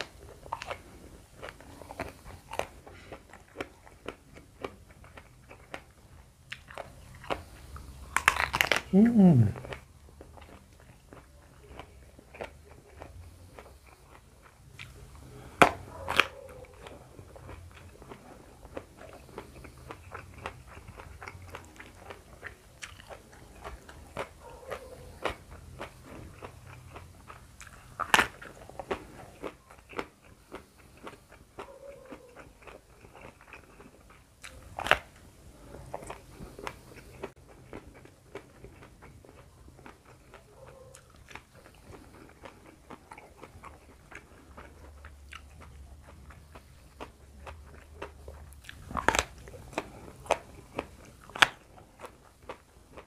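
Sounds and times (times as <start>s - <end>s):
eggplant crunching when chewed: 0.0s - 53.0s.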